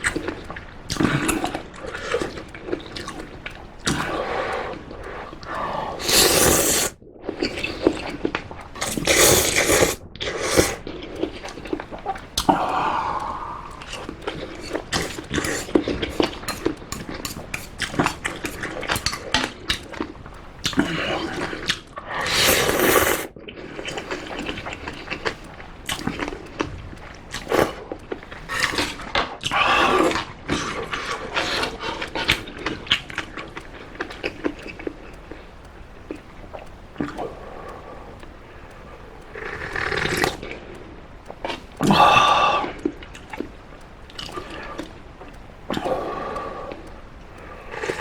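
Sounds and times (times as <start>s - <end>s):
noisy slurp: 0.0s - 48.0s
wet chewing and smacking: 0.0s - 48.0s.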